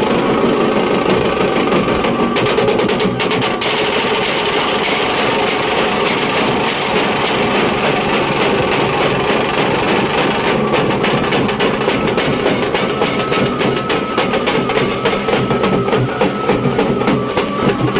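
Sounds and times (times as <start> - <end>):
barrel drums beaten with sticks: 0.0 - 17.9.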